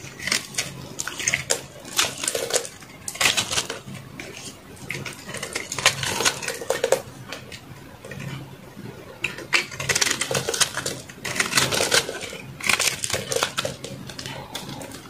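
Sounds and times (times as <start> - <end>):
knife carving crumbly soap: 0.0 - 15.0.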